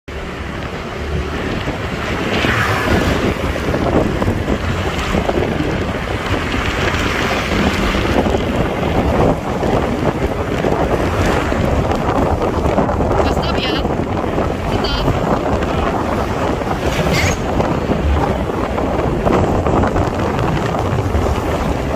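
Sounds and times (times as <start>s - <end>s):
vehicle engine and road rumble: 0.1s - 21.9s
wind buffeting microphone: 0.1s - 21.9s.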